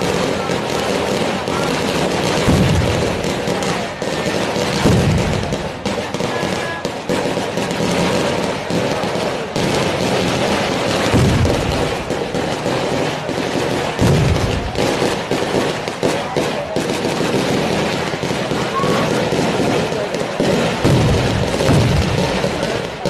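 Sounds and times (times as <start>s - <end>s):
fireworks crackling and popping: 0.0s - 23.0s
heavy fireworks booms: 0.0s - 23.0s.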